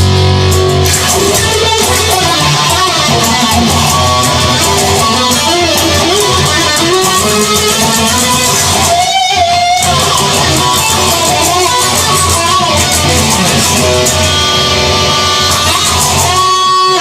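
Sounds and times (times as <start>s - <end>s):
bass and drum beat: 0.0s - 17.0s
electric guitar playing: 0.0s - 17.0s.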